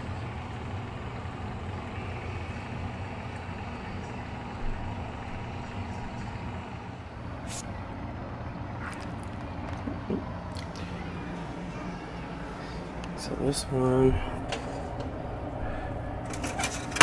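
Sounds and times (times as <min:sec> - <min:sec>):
low mechanical hum and rumble: 0:00.0 - 0:17.0.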